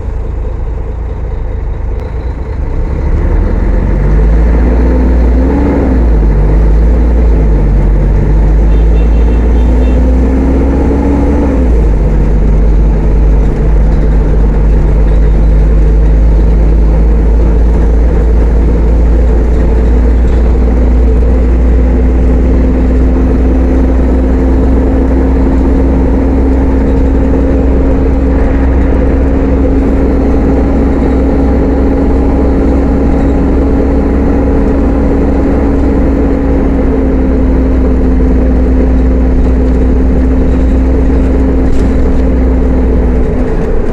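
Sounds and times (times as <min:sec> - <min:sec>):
bus diesel engine: 0:00.0 - 0:43.9.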